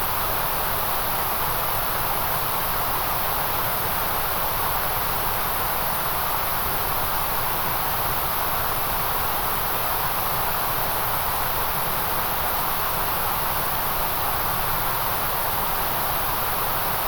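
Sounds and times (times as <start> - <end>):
steady white noise hiss: 0.0 - 17.0.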